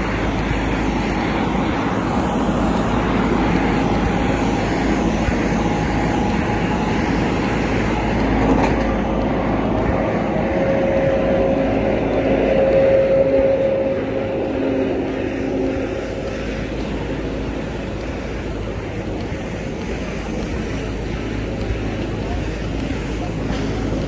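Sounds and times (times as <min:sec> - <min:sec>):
steady engine tone: 0:00.0 - 0:24.0
traffic rumble and hiss: 0:00.0 - 0:24.0.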